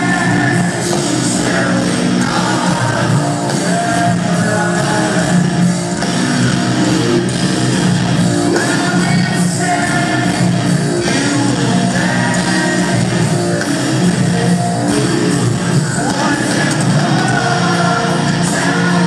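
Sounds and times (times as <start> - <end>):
person singing: 0.0 - 6.0, 8.4 - 19.0
distorted electric guitar: 0.0 - 19.0
live heavy rock band: 0.0 - 19.0.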